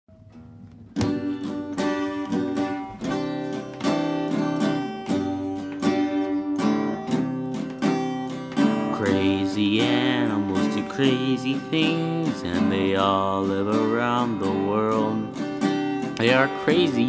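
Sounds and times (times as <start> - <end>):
acoustic guitar strumming chords: 0.1 - 17.0.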